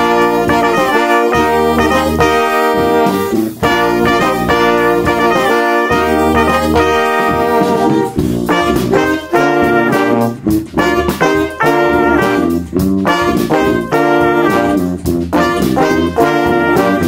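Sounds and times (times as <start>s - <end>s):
brass band playing: 0.0s - 17.0s
drum kit: 0.0s - 17.0s.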